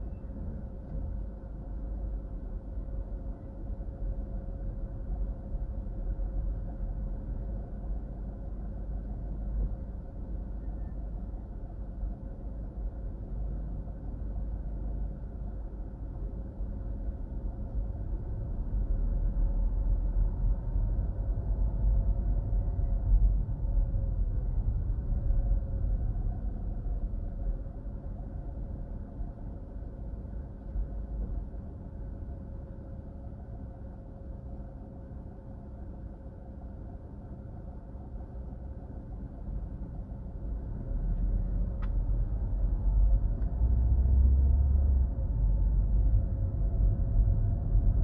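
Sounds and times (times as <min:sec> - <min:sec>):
faint constant hum: 0:00.0 - 0:48.0
road and engine rumble: 0:00.0 - 0:48.0.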